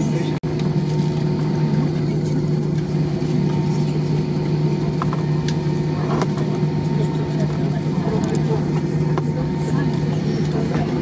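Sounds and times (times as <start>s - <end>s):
airplane cabin hum: 0.0s - 11.0s.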